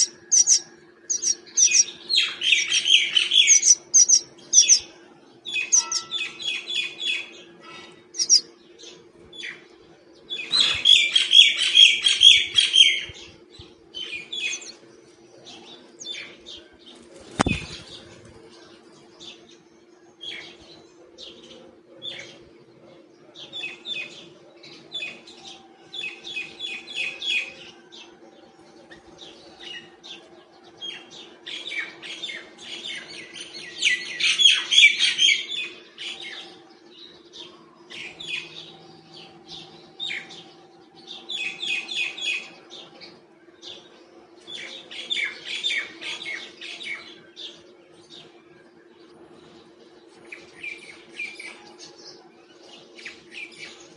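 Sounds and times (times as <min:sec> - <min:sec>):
myna chirping: 0:00.0 - 0:53.9.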